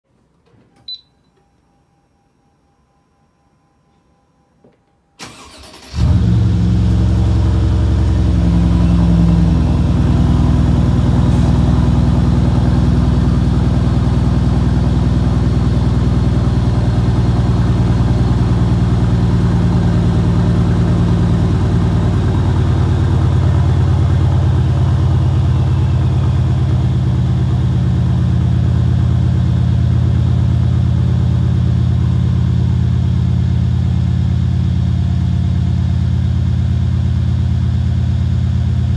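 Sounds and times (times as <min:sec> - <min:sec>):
loud engine idling: 0:05.3 - 0:38.9.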